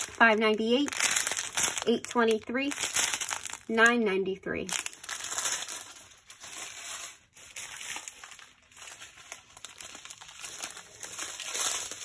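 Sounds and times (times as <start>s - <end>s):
small plastic bags crinkling: 0.0s - 4.0s, 4.6s - 12.0s.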